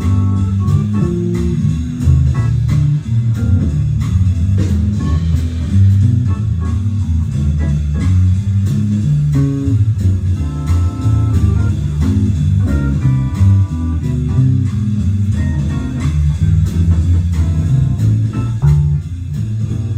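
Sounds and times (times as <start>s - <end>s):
bass line: 0.0s - 19.9s.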